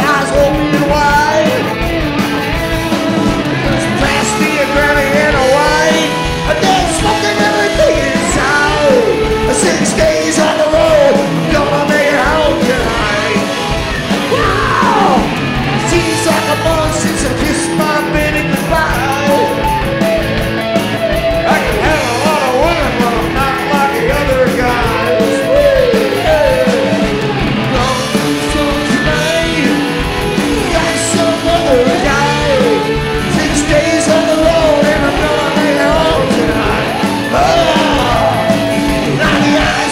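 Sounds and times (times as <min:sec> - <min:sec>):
singer yelling vocals: 0:00.0 - 0:01.9, 0:02.9 - 0:19.9, 0:21.4 - 0:39.9
live rock band playing: 0:00.0 - 0:39.9.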